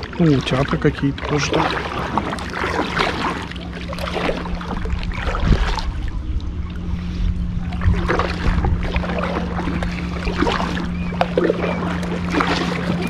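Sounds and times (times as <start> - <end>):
steady low hum: 0.0 - 13.0
water splashing against kayak: 0.0 - 13.0
wind buffeting microphone: 0.0 - 13.0.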